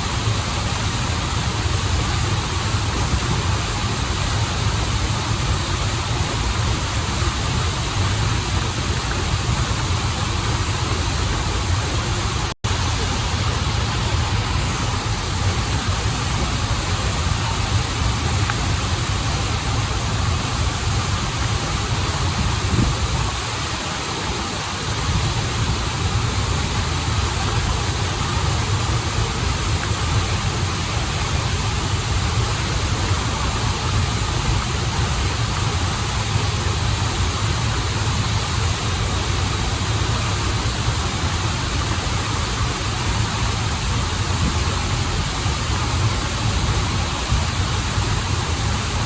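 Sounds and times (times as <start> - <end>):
waterfall and river rushing: 0.0 - 49.0.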